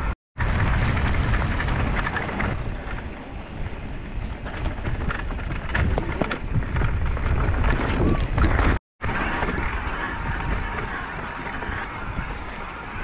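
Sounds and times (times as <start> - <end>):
wind buffeting microphone: 0.0 - 13.0
bike tyres rolling on gravel: 0.4 - 13.0.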